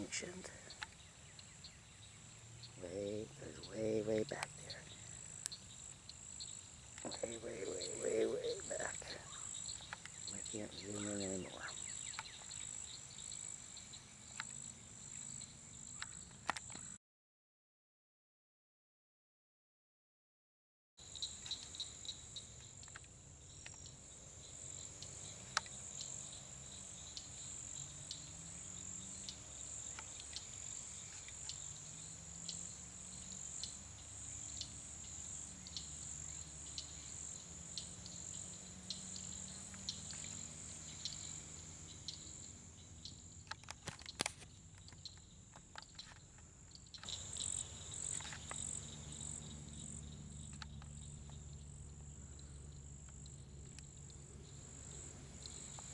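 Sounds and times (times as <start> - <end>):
insects chirping: 0.0 - 17.0, 21.0 - 55.9.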